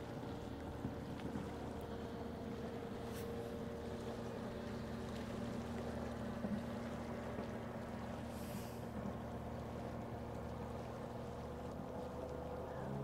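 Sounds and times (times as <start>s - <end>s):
water lapping gently: 0.0s - 13.0s.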